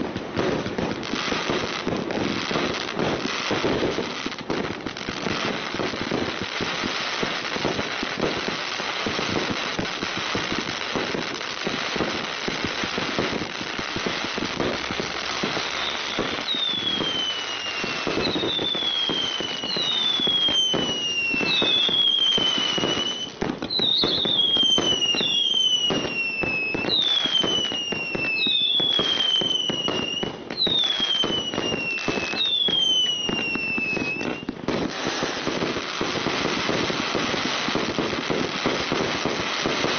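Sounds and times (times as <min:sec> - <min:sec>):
fireworks crackling: 0:00.0 - 0:39.9
fireworks whistling: 0:00.0 - 0:39.9.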